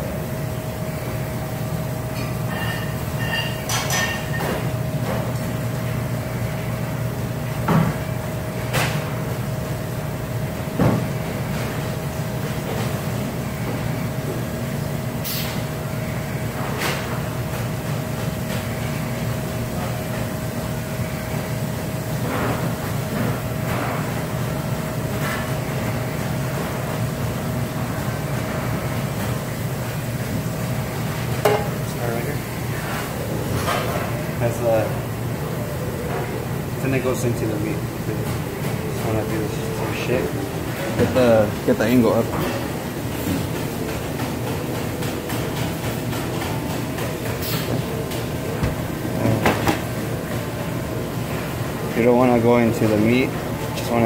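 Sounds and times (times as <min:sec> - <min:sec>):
mechanical hum with high whine: 0:00.0 - 0:54.0.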